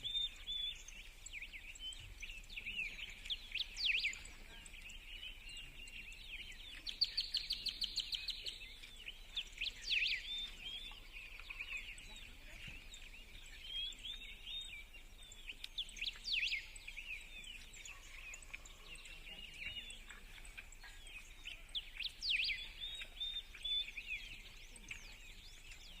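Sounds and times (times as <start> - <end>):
birds singing and chirping: 0.0 - 26.0
faint outdoor background noise: 0.0 - 26.0.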